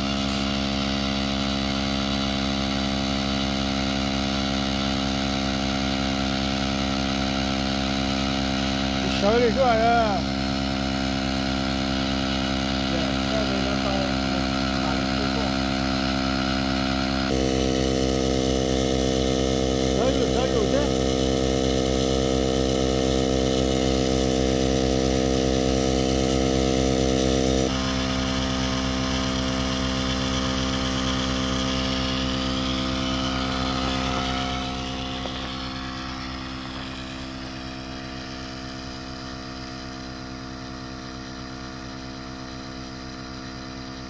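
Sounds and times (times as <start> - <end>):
engine pulsing hum: 0.0 - 44.0.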